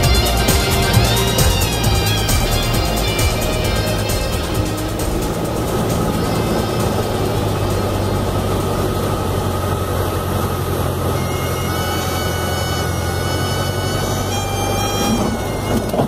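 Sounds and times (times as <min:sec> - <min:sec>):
aircraft piston engine droning: 0:00.0 - 0:16.0.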